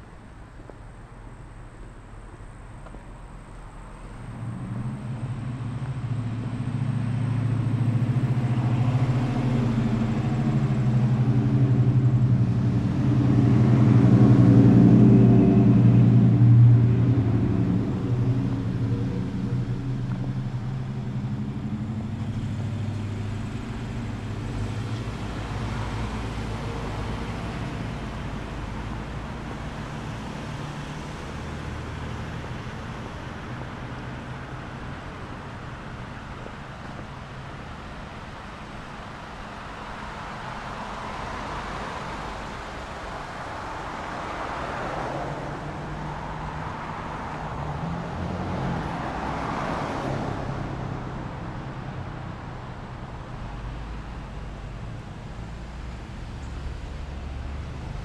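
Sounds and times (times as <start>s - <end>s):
vehicle engine passing by: 3.6s - 58.0s.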